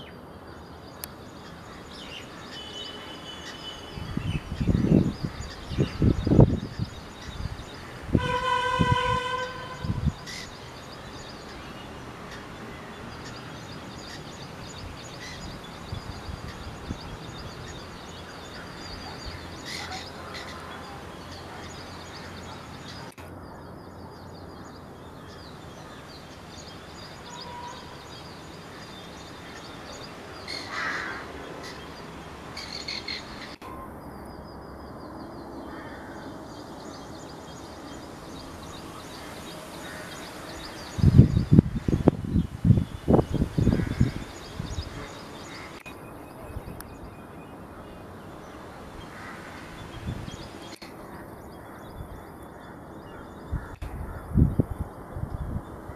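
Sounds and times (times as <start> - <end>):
birds calling and chirping: 0.0 - 55.9
outdoor background hiss: 0.0 - 55.9.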